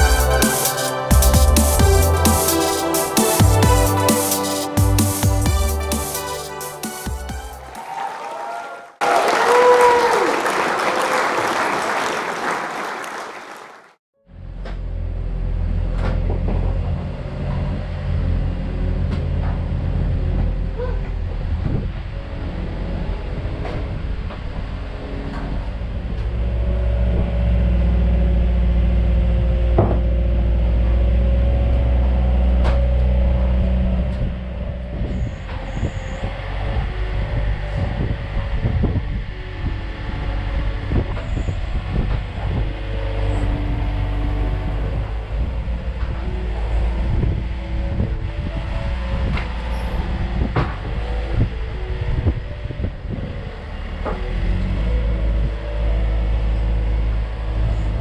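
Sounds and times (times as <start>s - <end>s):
loader diesel engine: 0.0s - 7.8s, 14.2s - 58.0s.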